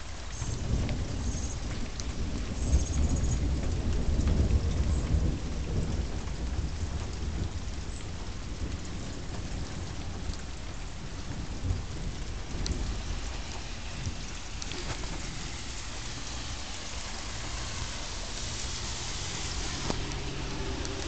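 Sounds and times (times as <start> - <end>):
low rumble of thunder: 0.0 - 21.0
rain falling: 0.0 - 21.0.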